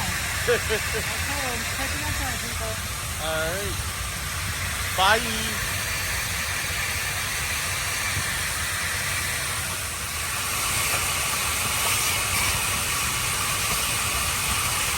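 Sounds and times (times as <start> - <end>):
broad even hiss: 0.0 - 14.9.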